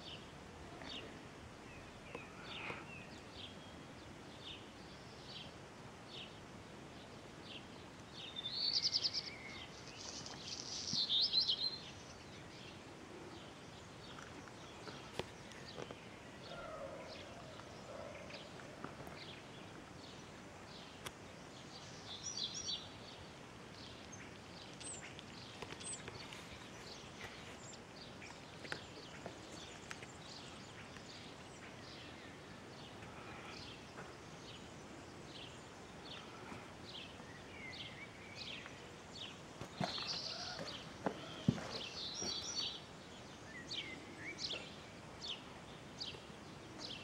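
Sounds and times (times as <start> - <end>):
background hiss: 0.0 - 47.0
small birds chirping: 0.0 - 47.0.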